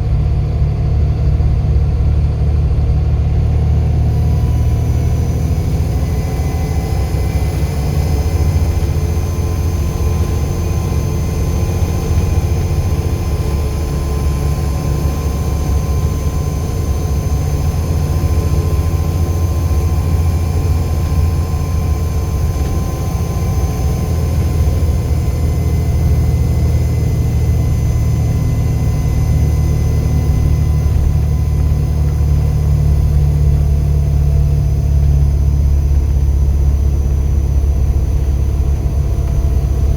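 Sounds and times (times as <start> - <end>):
diesel bus engine rumbling: 0.0 - 39.9.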